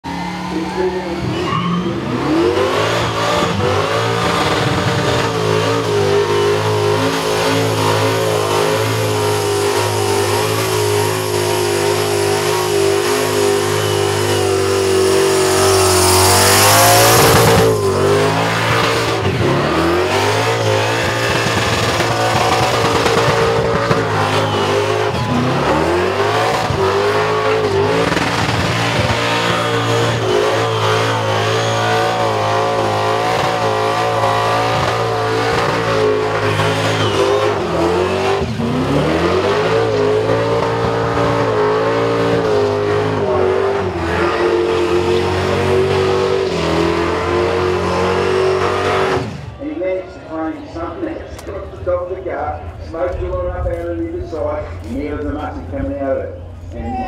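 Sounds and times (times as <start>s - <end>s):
car engine at high revs: 0.0s - 49.6s.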